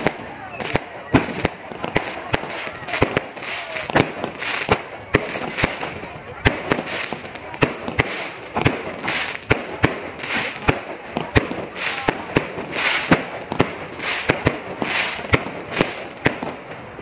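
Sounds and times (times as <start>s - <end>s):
crackling firework shells: 0.0s - 17.0s
firework bangs: 0.0s - 17.0s.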